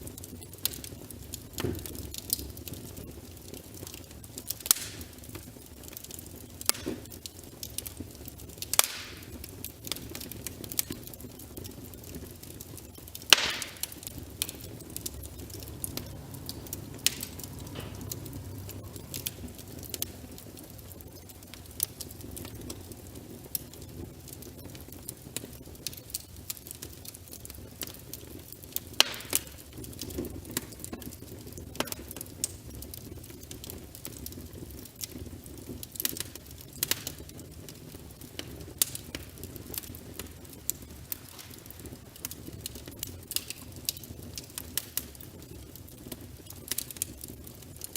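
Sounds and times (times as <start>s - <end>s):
flames rushing: 0.0s - 47.9s
logs crackling and popping: 0.0s - 47.9s.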